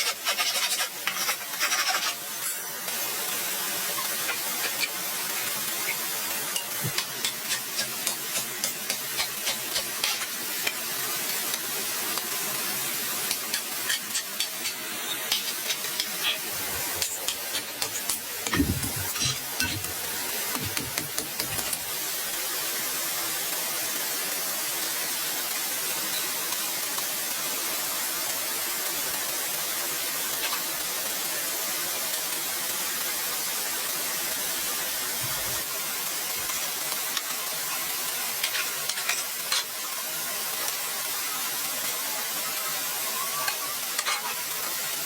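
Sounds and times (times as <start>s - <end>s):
steady hissing noise: 0.0s - 45.0s.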